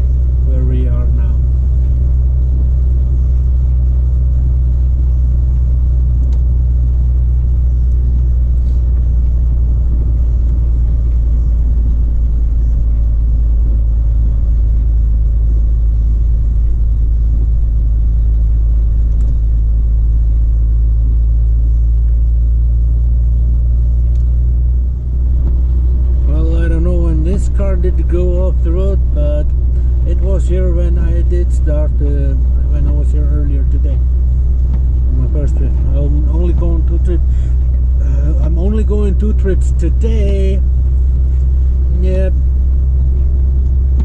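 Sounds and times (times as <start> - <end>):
truck engine drone from cab: 0.0 - 44.0.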